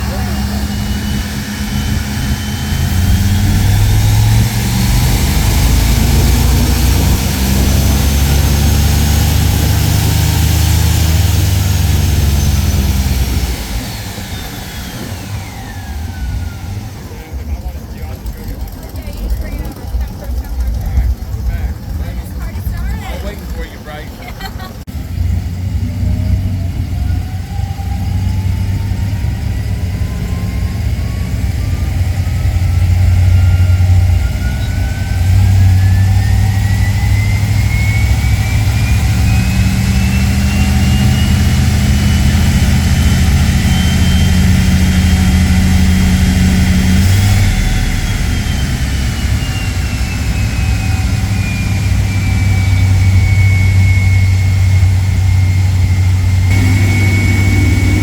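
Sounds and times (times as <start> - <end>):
engine revving on dyno: 0.0 - 17.4, 24.8 - 58.0
dyno rollers coasting down: 0.0 - 58.0.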